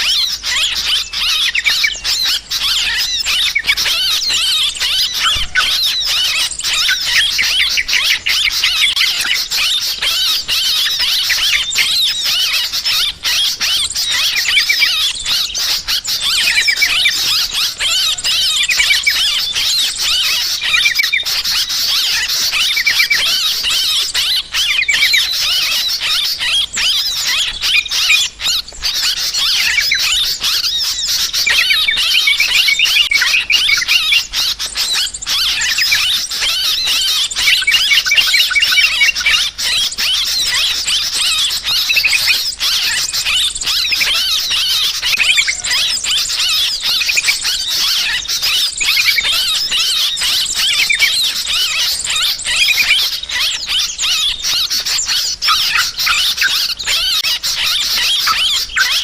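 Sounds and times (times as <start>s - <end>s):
flock of bulbuls chattering: 0.0s - 59.0s.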